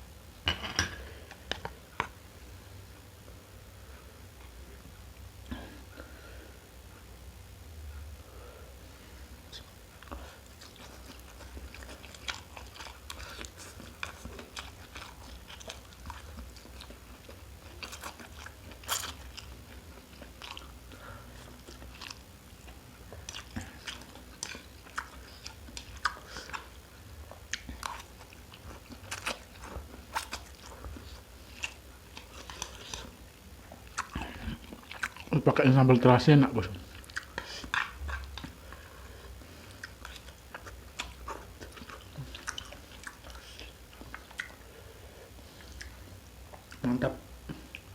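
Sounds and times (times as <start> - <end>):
person chewing crunchy food: 9.3 - 47.9.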